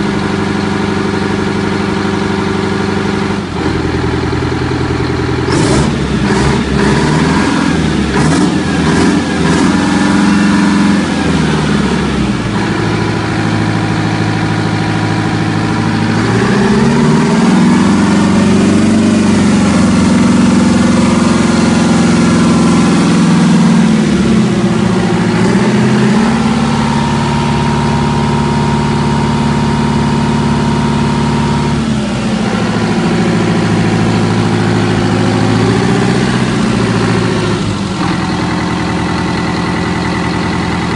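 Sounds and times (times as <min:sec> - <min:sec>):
diesel engine changing speed: 0:00.0 - 0:40.9.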